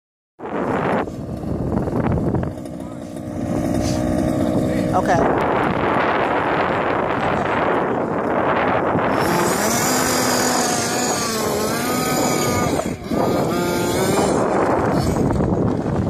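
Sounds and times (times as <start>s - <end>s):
rc car two-stroke engine running: 0.4s - 16.0s.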